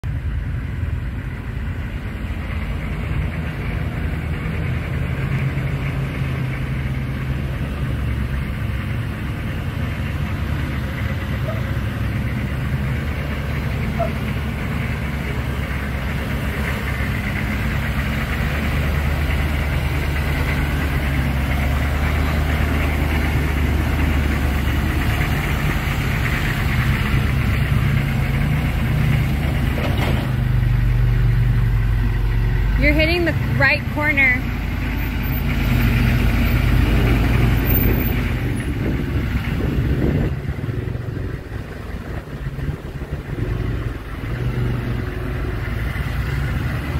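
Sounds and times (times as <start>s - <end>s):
diesel engine running at low revs: 0.0s - 46.9s.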